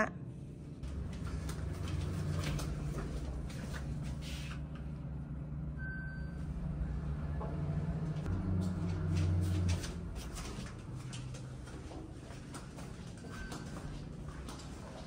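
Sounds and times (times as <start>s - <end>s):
elevator low hum: 0.2s - 15.0s.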